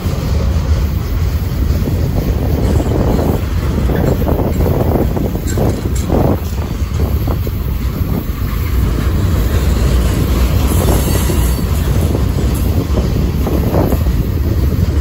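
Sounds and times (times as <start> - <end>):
rail clacks: 0.0 - 15.0
train wheels rumbling on rails: 0.0 - 15.0.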